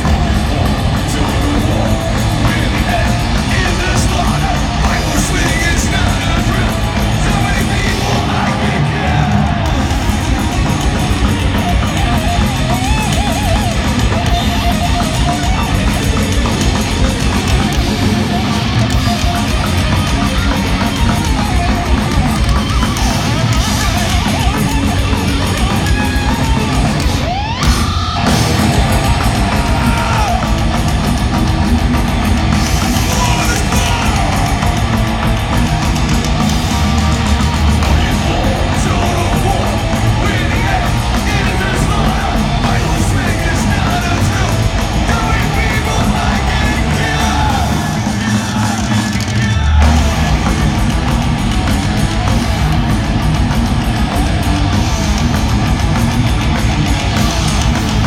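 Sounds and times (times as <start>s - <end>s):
drums: 0.0s - 58.0s
live rock band playing: 0.0s - 58.0s.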